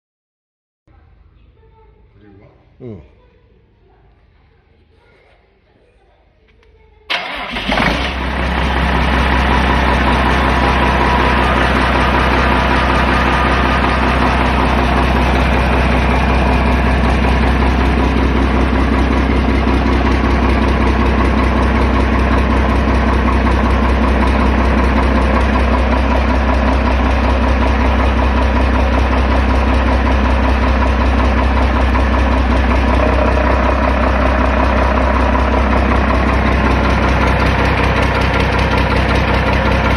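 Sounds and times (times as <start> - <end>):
diesel engine starting and idling: 7.1 - 39.9.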